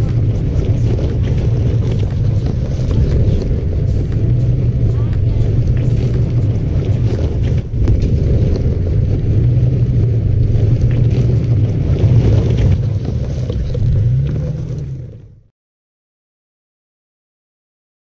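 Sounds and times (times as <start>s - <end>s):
wind buffeting microphone: 0.0s - 15.4s
steady low rumble: 0.0s - 15.5s.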